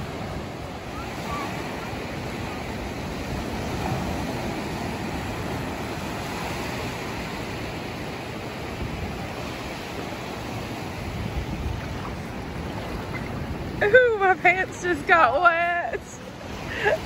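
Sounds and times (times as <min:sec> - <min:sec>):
ocean surf washing on shore: 0:00.0 - 0:17.0
wind noise on microphone: 0:00.0 - 0:17.0.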